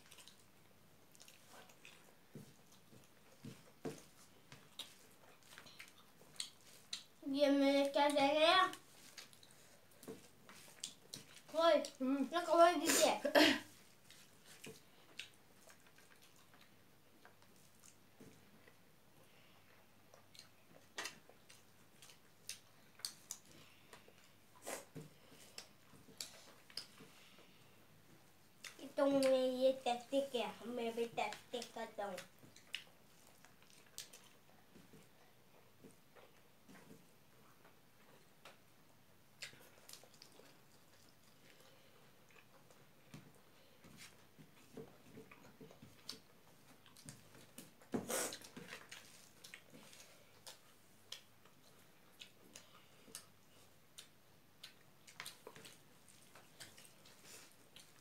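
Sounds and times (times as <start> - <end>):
chewing smacks: 0.0 - 7.2, 8.7 - 12.0, 13.8 - 18.8, 20.0 - 27.5, 31.3 - 36.9, 39.3 - 58.0.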